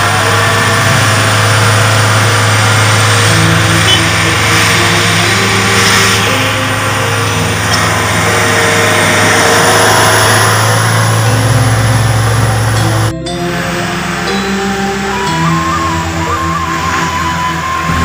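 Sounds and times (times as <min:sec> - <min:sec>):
engine drone: 0:00.0 - 0:18.0
road noise rushing: 0:00.0 - 0:18.0.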